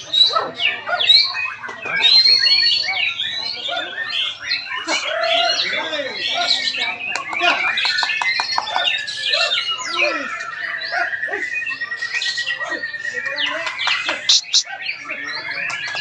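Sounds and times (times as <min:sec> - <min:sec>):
birds singing in chorus: 0:00.0 - 0:16.0.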